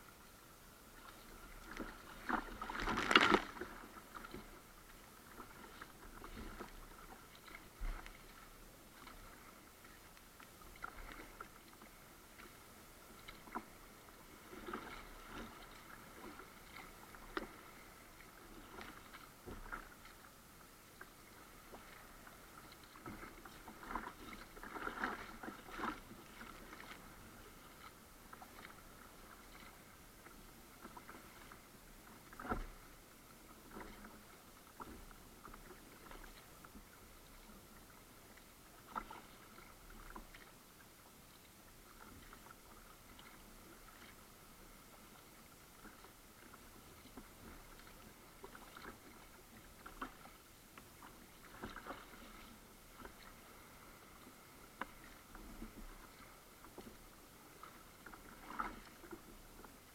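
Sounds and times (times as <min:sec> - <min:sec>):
paddle splashing in water: 0:00.9 - 0:59.9.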